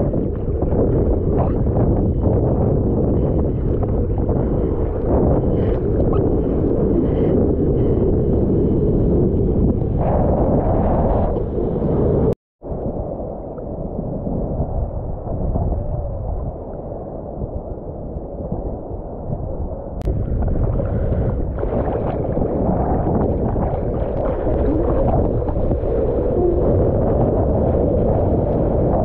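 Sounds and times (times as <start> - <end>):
sea water sloshing and gurgling: 0.0 - 11.1, 13.7 - 29.0.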